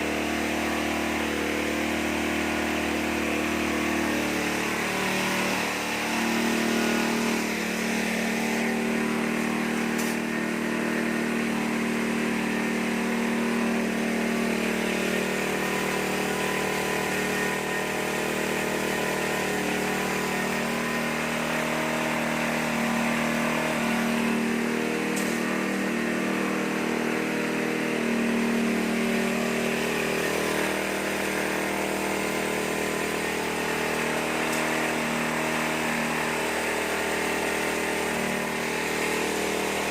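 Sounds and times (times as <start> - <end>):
corn-cracking machine humming: 0.0 - 39.9.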